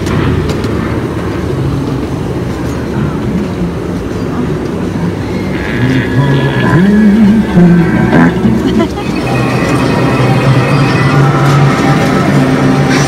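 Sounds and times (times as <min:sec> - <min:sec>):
miniature train rumbling on track: 0:00.0 - 0:13.0.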